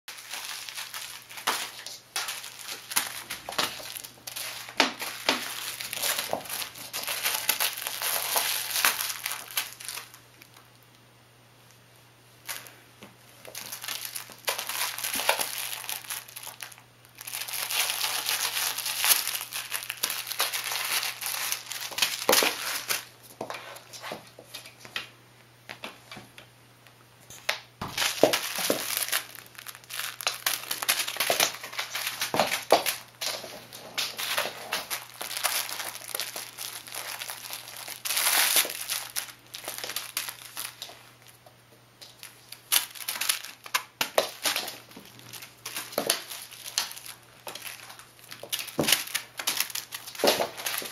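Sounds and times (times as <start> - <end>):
cat toy crinkling: 0.1 - 10.7, 12.4 - 24.7, 27.9 - 50.9.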